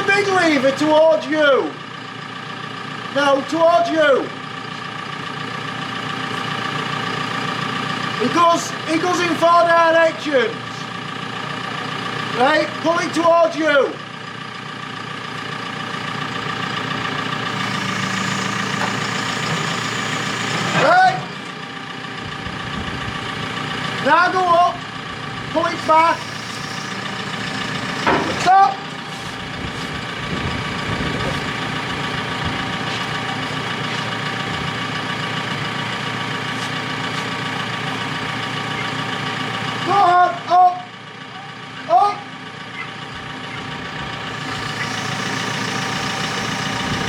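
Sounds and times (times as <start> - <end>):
lifting machine engine running: 0.0 - 47.0.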